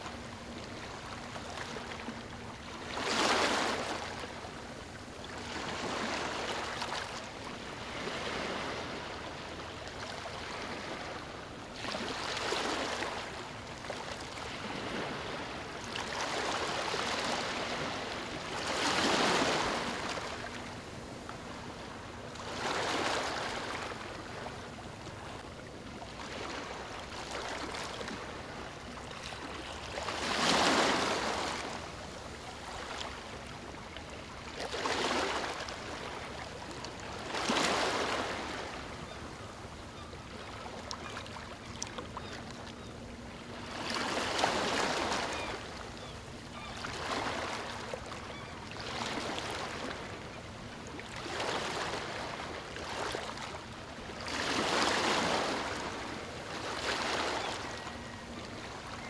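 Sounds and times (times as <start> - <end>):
small waves breaking on shore: 0.0 - 59.0.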